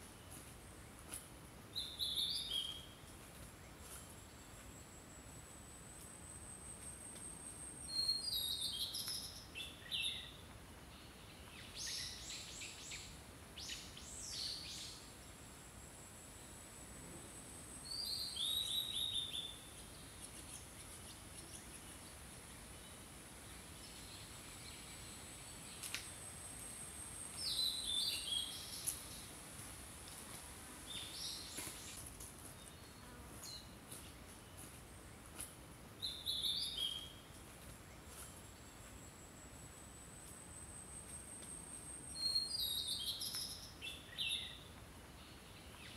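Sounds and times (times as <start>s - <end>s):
songbirds chirping: 0.0s - 29.4s, 30.0s - 45.9s.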